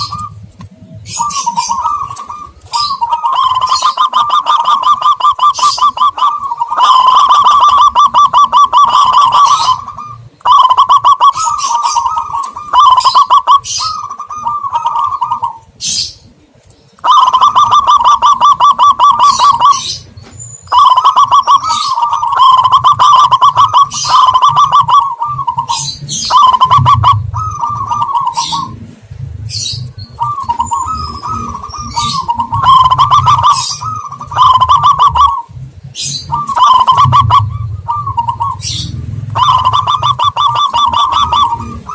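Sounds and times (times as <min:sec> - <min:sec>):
doves cooing: 0:00.0 - 0:41.9
high chirps: 0:00.0 - 0:41.9.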